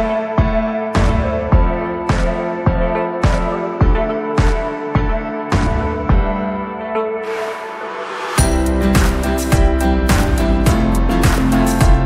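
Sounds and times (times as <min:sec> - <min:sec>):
background music with drums and bass: 0:00.0 - 0:06.5, 0:08.3 - 0:12.0.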